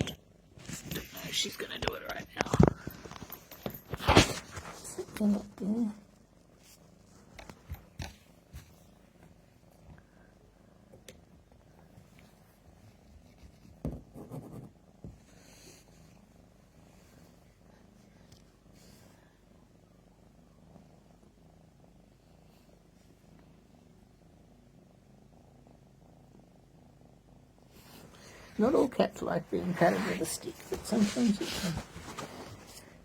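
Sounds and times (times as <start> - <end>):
cat purring: 0.0 - 33.0.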